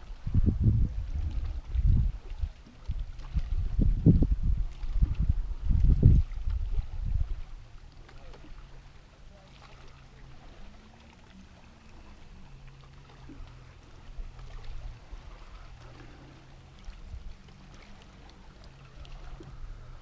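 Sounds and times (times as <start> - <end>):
wind rumble on microphone: 0.0 - 8.9, 9.7 - 20.0
waves lapping against boat hull: 0.0 - 20.0.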